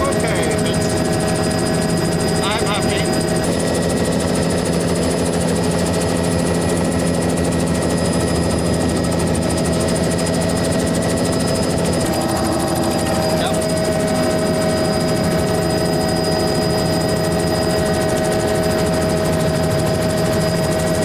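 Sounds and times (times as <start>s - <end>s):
helicopter cabin drone: 0.0s - 21.0s.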